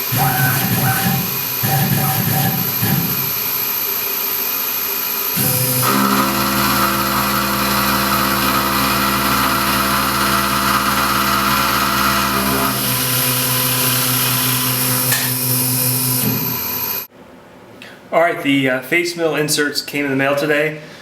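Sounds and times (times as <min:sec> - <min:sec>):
mill milling aluminum: 0:00.0 - 0:17.1.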